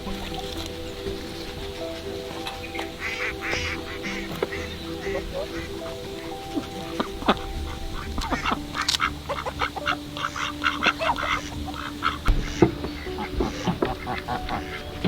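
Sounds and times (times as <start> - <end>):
farmyard fowl calling: 2.1 - 15.0.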